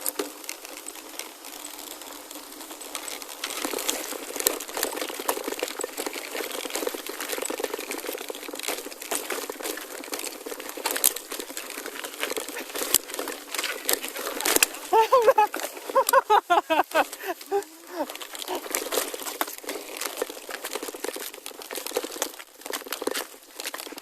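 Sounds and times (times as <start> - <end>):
gravel crunching: 0.0 - 24.0.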